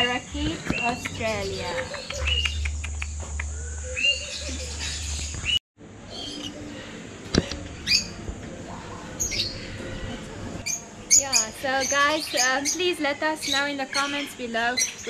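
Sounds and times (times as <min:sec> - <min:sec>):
parrots chirping and squawking: 0:00.6 - 0:08.2, 0:08.8 - 0:15.0.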